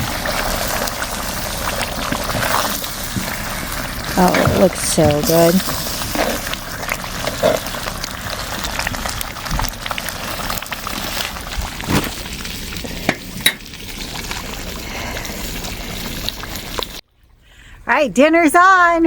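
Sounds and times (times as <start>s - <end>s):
sizzling hiss: 0.0s - 17.0s.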